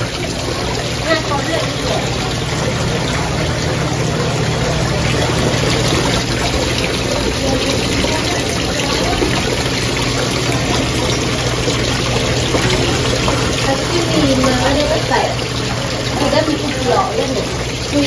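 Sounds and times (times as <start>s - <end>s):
waterfall splashing into pond: 0.0s - 18.0s.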